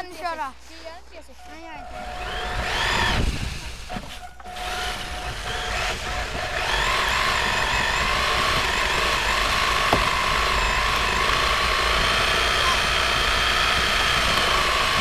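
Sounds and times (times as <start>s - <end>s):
toy car motor whining: 1.9s - 15.0s.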